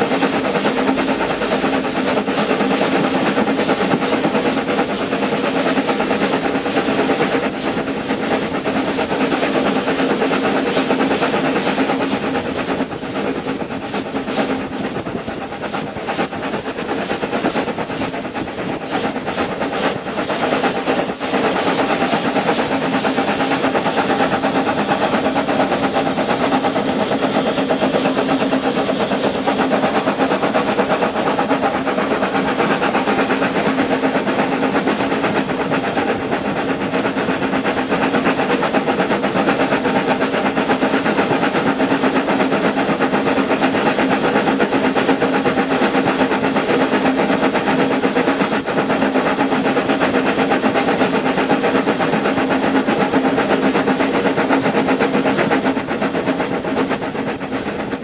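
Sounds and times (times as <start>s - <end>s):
steam hissing: 0.0s - 58.0s
steam locomotive chuffing: 0.0s - 58.0s
wheels running on rail: 0.0s - 58.0s.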